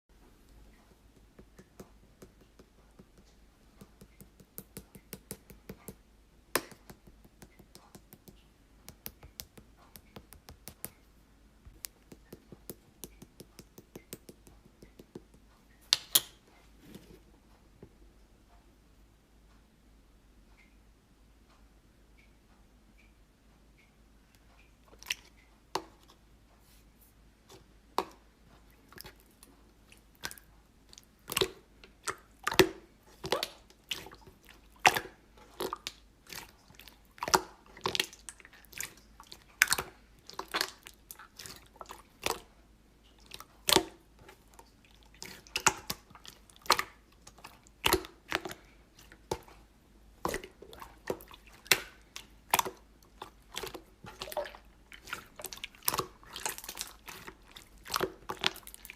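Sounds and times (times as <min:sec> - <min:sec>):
slime kneaded by hand: 0:00.4 - 0:11.1, 0:11.7 - 0:17.3, 0:24.9 - 0:58.9.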